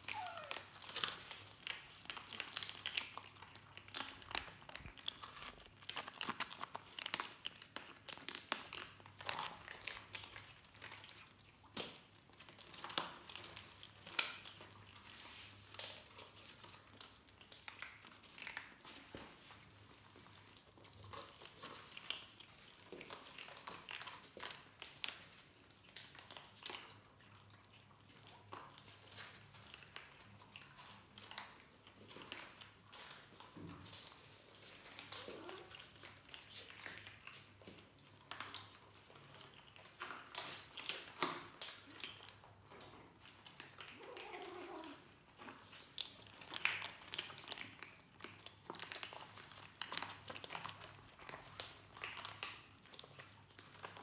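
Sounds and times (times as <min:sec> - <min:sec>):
kittens crunching dry kibble: 0:00.0 - 0:54.0.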